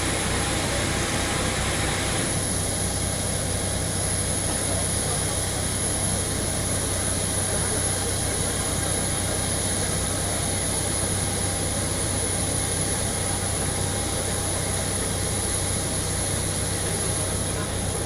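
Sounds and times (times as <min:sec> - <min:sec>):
jet aircraft engine drone: 0:00.0 - 0:18.0.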